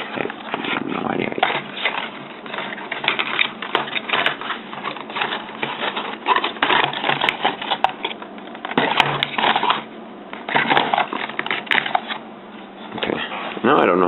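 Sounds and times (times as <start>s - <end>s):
plastic and cardboard rustling: 0.0s - 13.8s.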